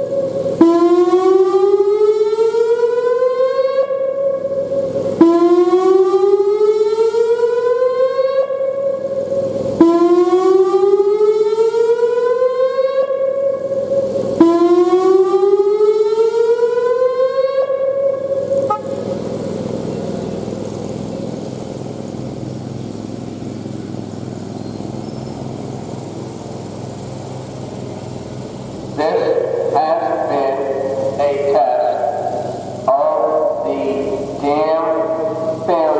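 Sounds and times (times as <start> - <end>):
electronic siren whooping: 0.0 - 22.7, 28.9 - 35.9.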